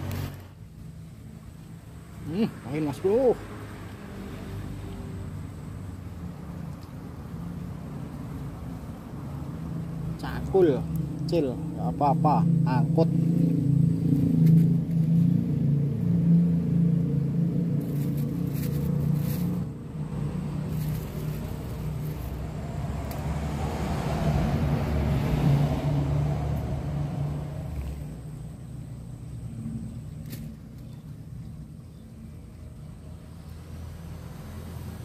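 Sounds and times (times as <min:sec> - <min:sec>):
low engine hum: 0:00.0 - 0:35.0
vehicle passing: 0:00.0 - 0:35.0.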